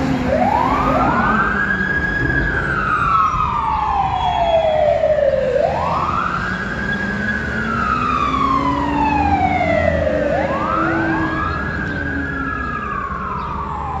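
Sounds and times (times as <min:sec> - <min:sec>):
fire truck siren wailing: 0:00.0 - 0:14.0.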